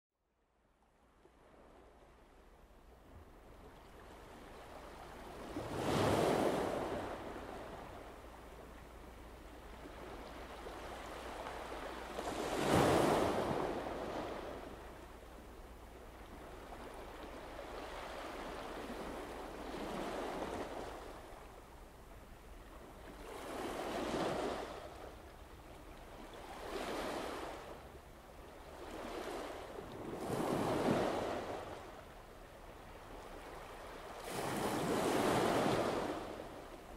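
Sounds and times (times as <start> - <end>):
sea waves washing ashore: 3.4 - 36.9.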